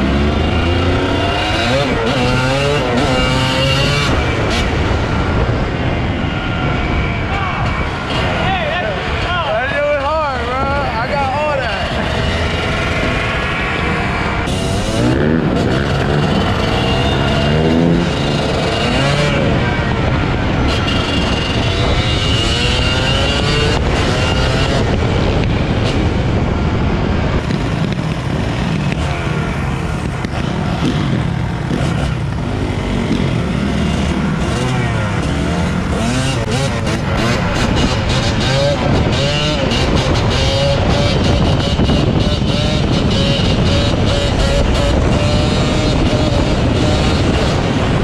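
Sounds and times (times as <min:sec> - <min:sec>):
motorcycle engines revving: 0:00.0 - 0:48.0
steady rush of noise: 0:00.0 - 0:48.0.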